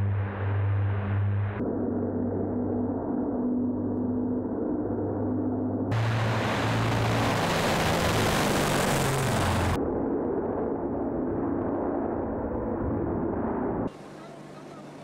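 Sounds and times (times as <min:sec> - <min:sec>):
turboprop engines roaring: 0:00.0 - 0:09.9, 0:12.3 - 0:15.0.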